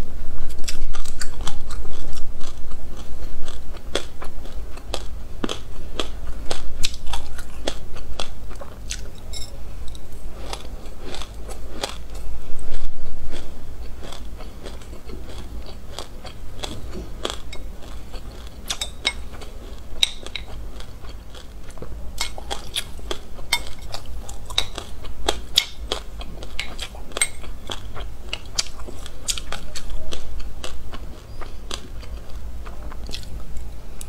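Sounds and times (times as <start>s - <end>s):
chewing crunchy seeds: 0.5s - 34.0s.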